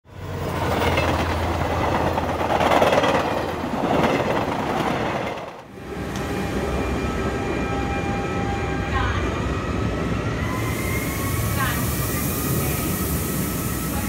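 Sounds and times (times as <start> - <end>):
train rumbling on rails: 0.0 - 14.0
electric train hum: 0.1 - 14.0.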